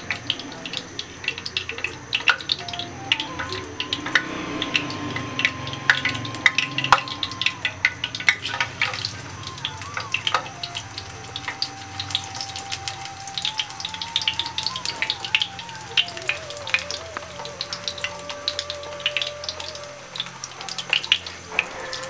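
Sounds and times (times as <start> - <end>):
potato frying in hot oil: 0.0 - 22.0.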